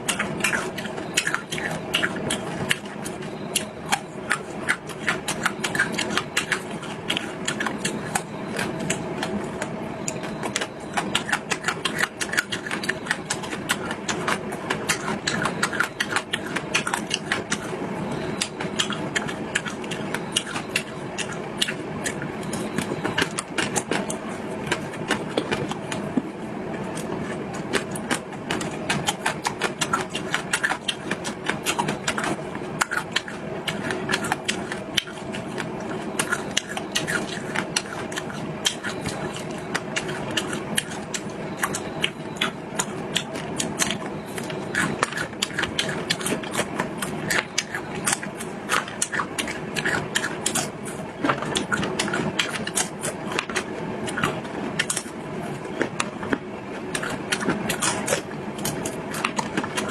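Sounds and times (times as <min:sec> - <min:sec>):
faint steady hum: 0:00.0 - 0:59.9
person chewing: 0:00.0 - 0:59.9.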